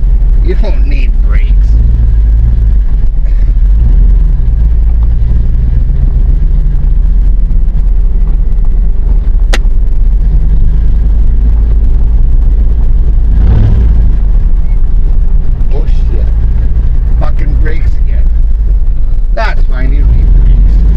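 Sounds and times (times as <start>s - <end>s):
pickup truck engine rumbling: 0.0s - 20.9s.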